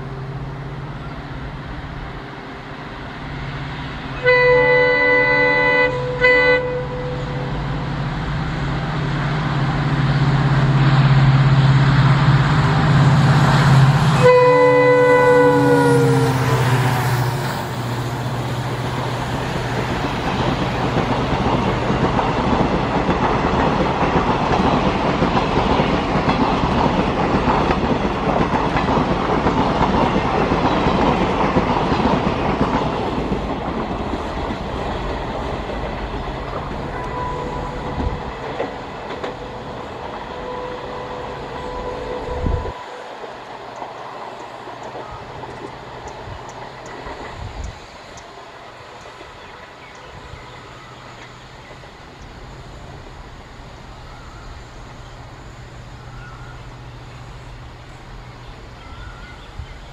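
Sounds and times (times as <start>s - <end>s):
distant train rumble: 0.0s - 59.9s
train coaches rolling past: 0.0s - 59.9s.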